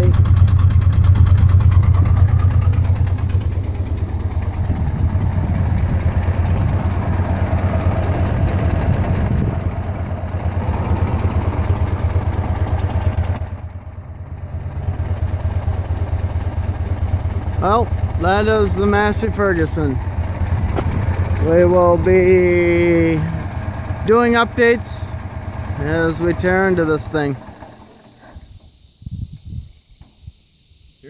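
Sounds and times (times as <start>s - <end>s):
tractor engine idling: 0.0s - 28.7s.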